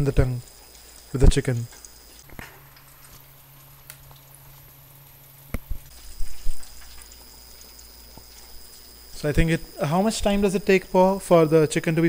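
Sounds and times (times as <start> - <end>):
oil bubbling and sizzling: 0.0 - 11.3.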